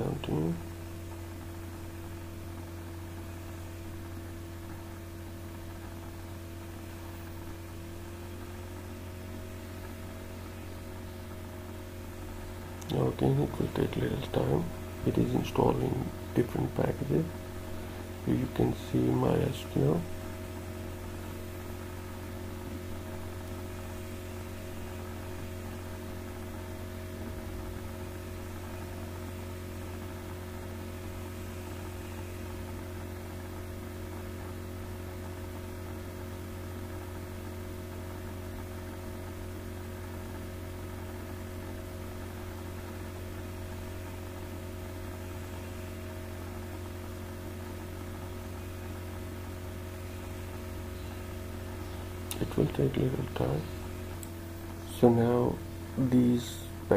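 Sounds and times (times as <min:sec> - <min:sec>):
electrical mains hum: 0:00.0 - 0:56.9.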